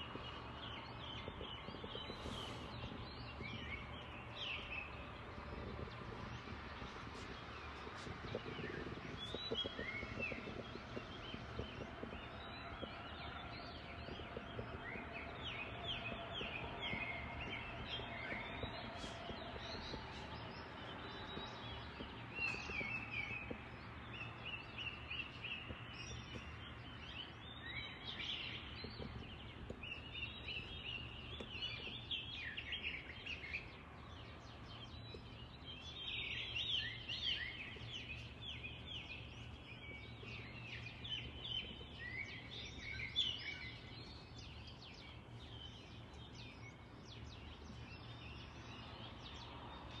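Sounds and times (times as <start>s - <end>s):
songbirds chirping: 0.0s - 50.0s.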